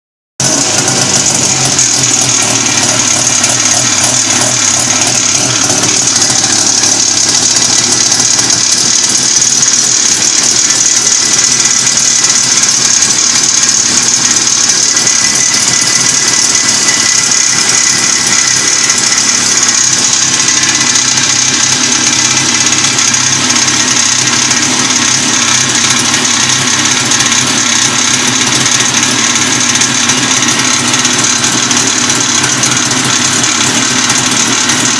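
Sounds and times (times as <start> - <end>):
snowmobile engine running: 0.4 - 34.9.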